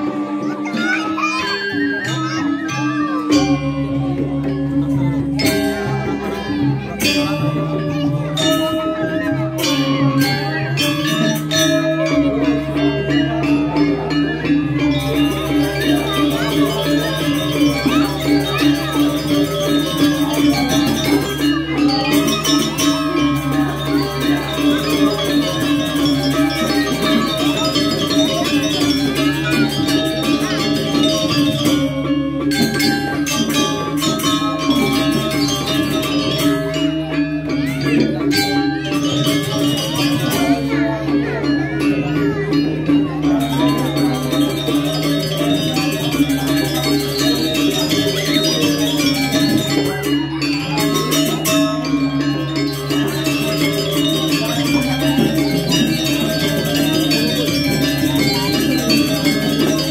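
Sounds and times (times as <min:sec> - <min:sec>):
bronze metallophone notes: 0:00.0 - 0:59.9
gamelan ensemble playing: 0:00.0 - 0:59.9
small cymbals clashing: 0:00.0 - 0:59.9.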